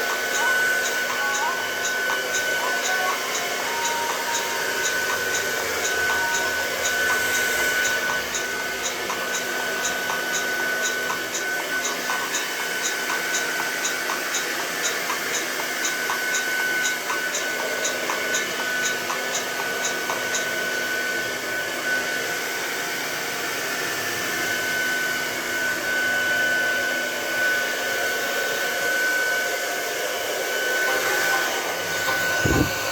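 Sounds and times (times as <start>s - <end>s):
hair dryer blowing: 0.0s - 32.9s.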